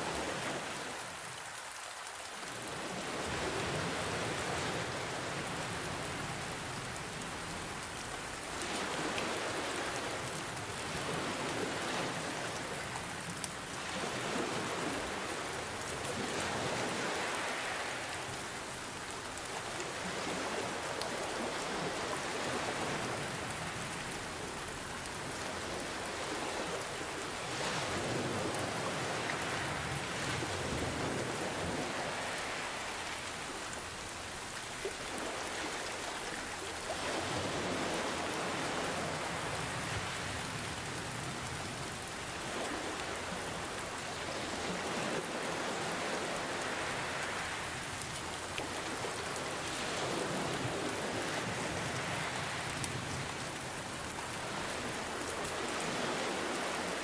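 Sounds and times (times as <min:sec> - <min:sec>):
gentle ocean waves: 0:00.0 - 0:57.0
steady rain falling: 0:00.0 - 0:57.0.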